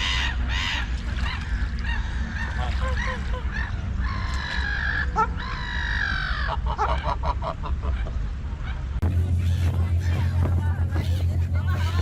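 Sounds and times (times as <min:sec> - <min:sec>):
steady low rumble: 0:00.0 - 0:12.0
water birds harsh calls: 0:00.0 - 0:12.0.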